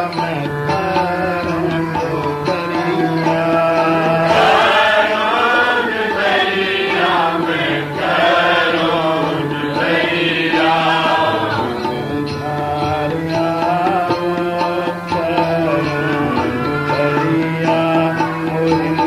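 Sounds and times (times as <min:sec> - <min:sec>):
voices chanting a hymn: 0:01.0 - 0:19.0.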